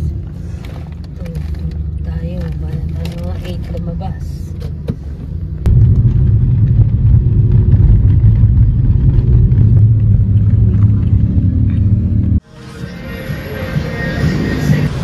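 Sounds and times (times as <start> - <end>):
car rumble inside cabin: 0.0 - 12.4.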